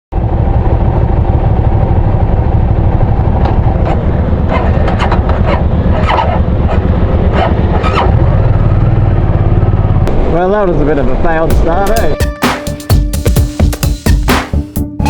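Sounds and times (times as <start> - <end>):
motorcycle engine throbbing: 0.1 - 15.0.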